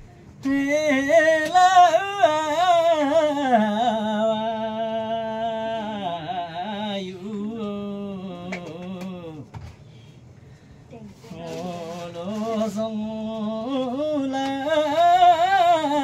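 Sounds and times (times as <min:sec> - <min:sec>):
man singing unaccompanied: 0:00.4 - 0:09.5, 0:11.4 - 0:16.0.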